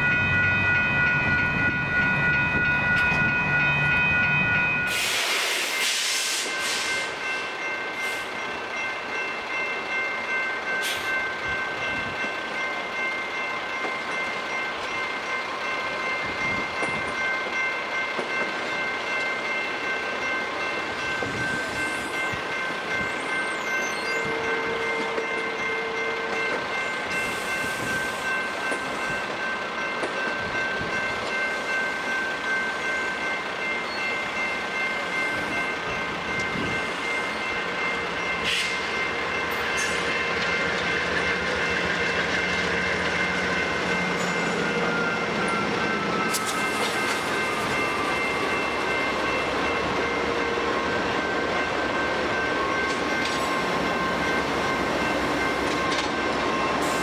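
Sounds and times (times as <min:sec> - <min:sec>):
high ringing tones: 0:00.0 - 0:05.9, 0:06.5 - 0:57.0
passenger train rumbling past: 0:00.0 - 0:57.0.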